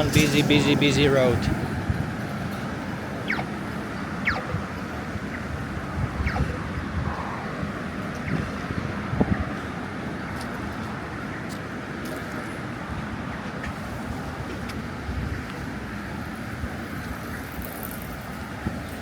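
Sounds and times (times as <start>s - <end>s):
vehicles passing: 0.0s - 19.0s.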